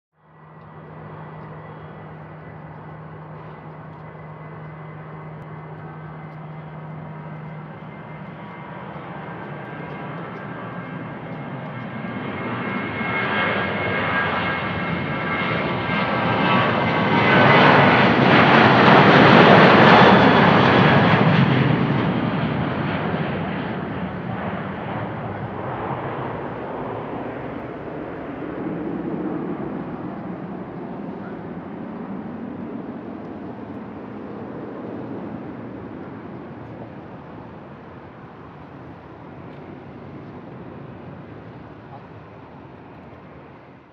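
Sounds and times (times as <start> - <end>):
jet airliner taking off: 0.3 - 43.9.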